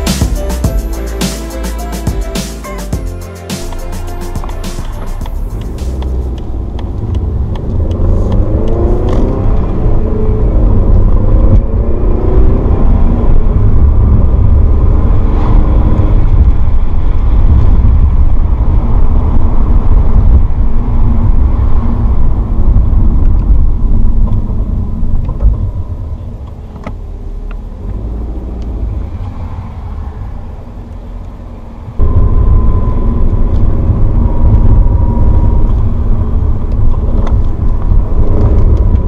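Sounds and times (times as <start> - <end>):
road noise: 0.0 - 39.0
car engine rumble inside cabin: 5.0 - 29.5, 30.2 - 39.0.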